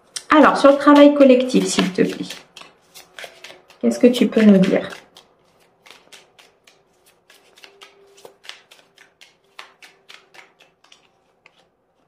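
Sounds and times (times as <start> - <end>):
playing cards being shuffled: 0.2 - 12.0.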